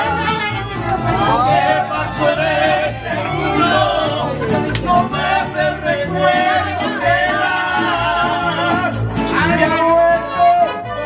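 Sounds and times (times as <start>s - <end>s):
mariachi band playing: 0.0s - 11.0s.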